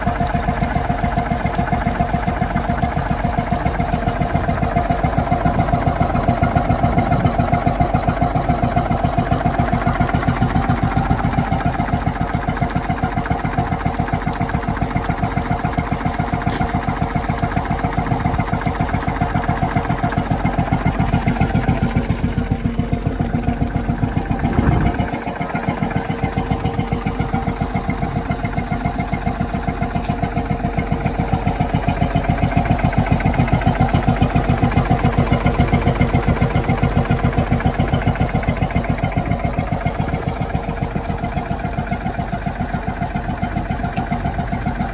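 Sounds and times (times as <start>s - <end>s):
engine knock: 0.0s - 44.9s.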